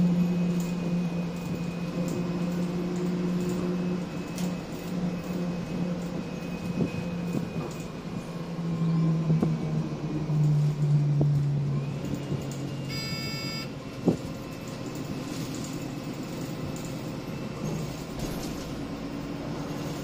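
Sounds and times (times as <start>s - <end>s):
bus engine hum: 0.0s - 20.0s.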